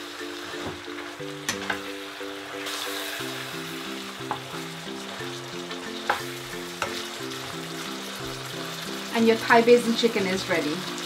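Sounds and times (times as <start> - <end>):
chicken sizzling in a pan: 0.0 - 11.0
light marimba music: 0.0 - 11.0.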